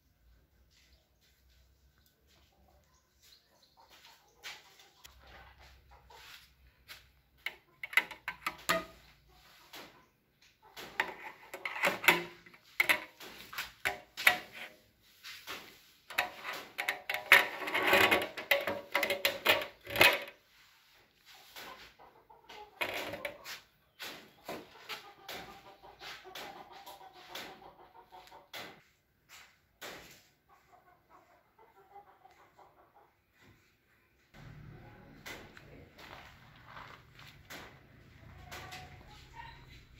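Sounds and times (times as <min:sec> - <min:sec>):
chickens clucking: 0:00.7 - 0:14.9, 0:18.0 - 0:29.0, 0:30.0 - 0:39.9.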